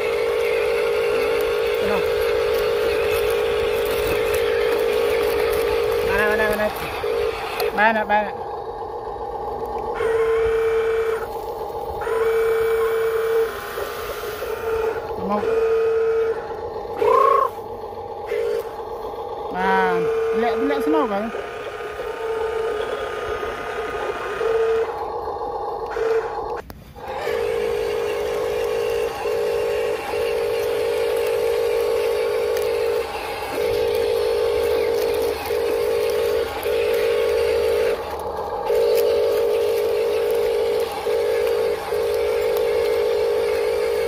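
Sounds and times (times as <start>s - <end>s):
electric motor whining: 0.0s - 44.0s.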